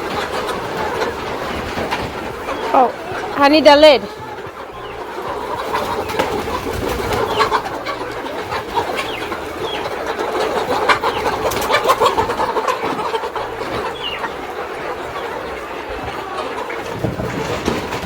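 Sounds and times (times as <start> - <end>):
chickens clucking and squawking: 0.0 - 18.0.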